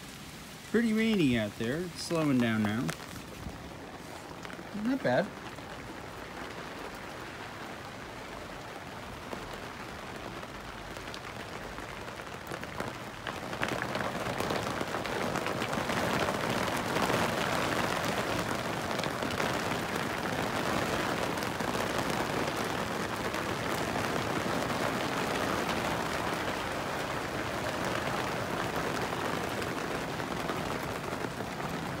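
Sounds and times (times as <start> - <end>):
rain on canvas: 0.0 - 32.0.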